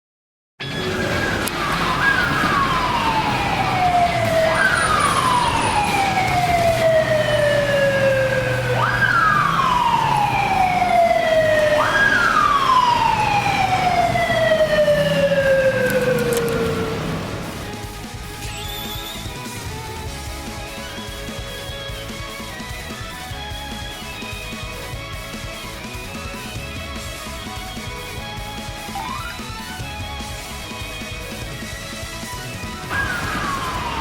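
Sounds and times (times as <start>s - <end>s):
police motorcycle siren wailing: 0.6s - 34.0s.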